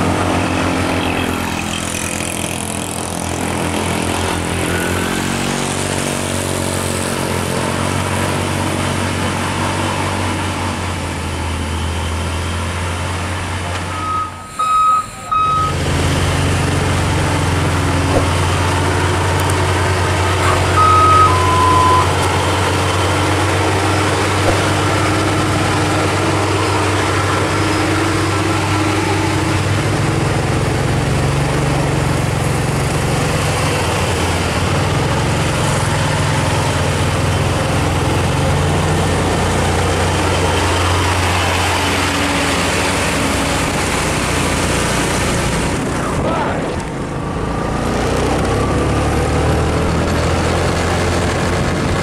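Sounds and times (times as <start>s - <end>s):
truck diesel engine humming: 0.0s - 52.0s.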